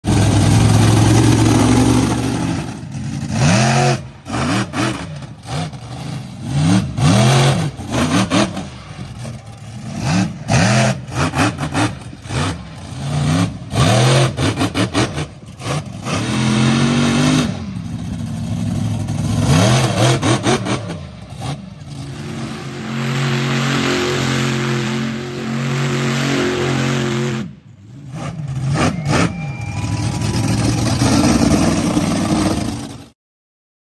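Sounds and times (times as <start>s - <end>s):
monster truck engine revving: 0.0s - 33.2s.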